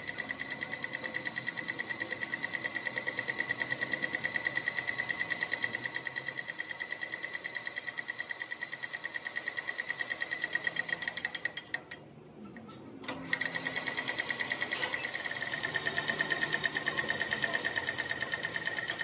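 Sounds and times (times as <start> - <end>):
metal lathe whining: 0.0 - 11.7, 13.1 - 19.0.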